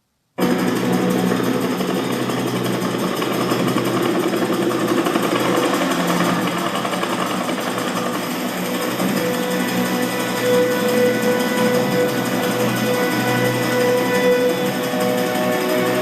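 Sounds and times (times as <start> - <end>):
action film soundtrack: 0.4 - 16.0
dense mechanical rattle: 0.4 - 16.0.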